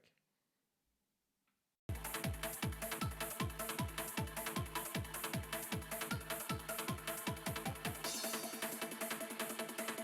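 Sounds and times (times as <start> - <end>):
trance techno music: 1.9 - 10.0.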